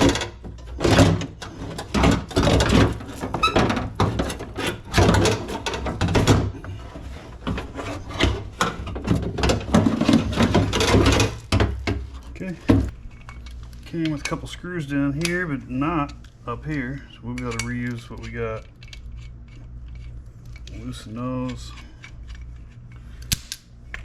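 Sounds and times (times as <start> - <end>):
metal parts clanking and scraping: 0.0 - 23.1.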